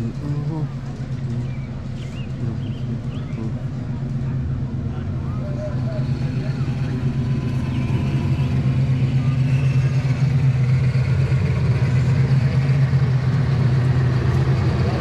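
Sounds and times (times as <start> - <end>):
miniature locomotive engine running: 0.0 - 15.0.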